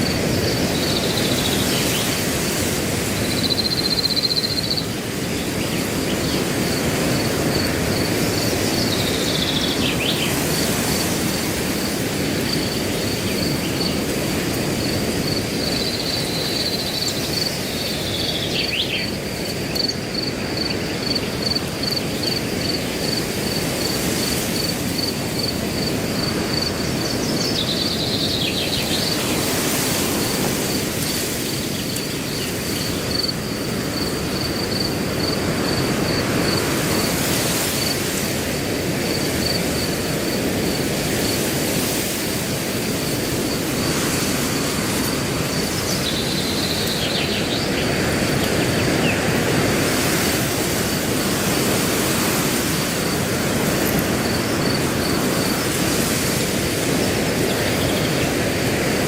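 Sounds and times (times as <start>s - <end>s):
cricket chirping: 0.0s - 59.0s
wind blowing through grass: 0.0s - 59.0s.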